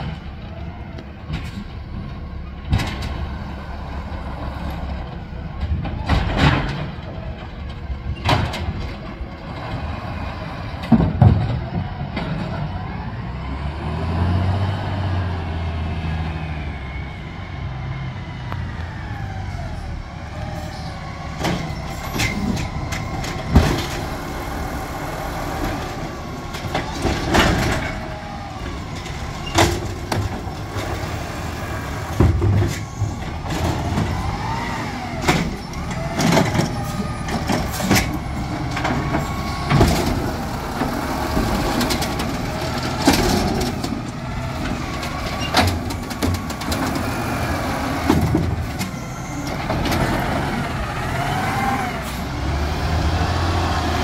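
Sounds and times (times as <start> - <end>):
garbage truck diesel engine revving: 8.7 - 54.0.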